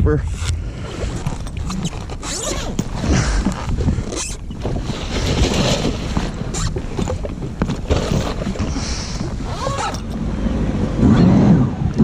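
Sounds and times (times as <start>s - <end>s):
jet ski engine rumble: 0.0s - 12.0s
wind buffeting microphone: 0.0s - 12.0s.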